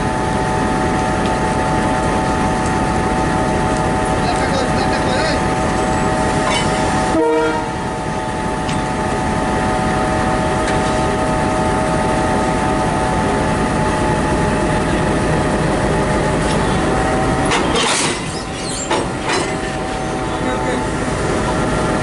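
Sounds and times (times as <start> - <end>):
locomotive rumbling with whining tones: 0.0 - 22.0.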